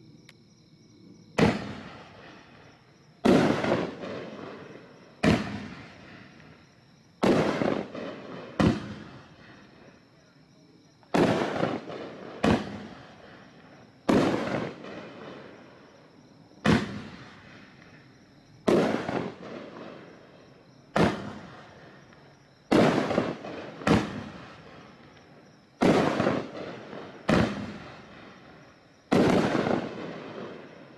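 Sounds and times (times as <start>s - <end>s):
firework bangs: 1.4s - 10.0s, 11.1s - 15.7s, 16.6s - 20.2s, 20.9s - 22.0s, 22.7s - 30.9s.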